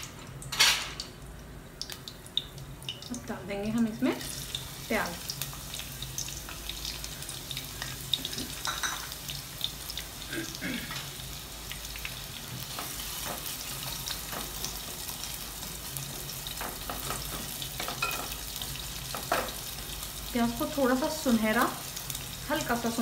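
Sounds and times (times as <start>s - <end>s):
onions sizzling in oil: 1.0s - 23.0s.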